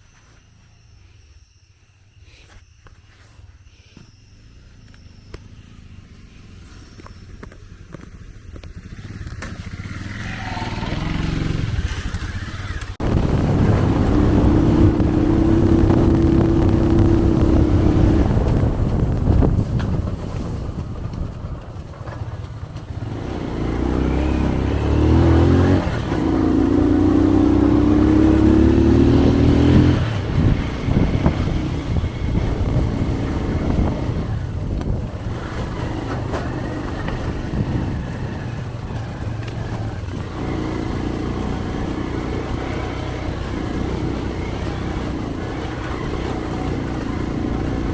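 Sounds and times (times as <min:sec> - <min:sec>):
motorcycle engine revving: 0:04.3 - 0:47.9.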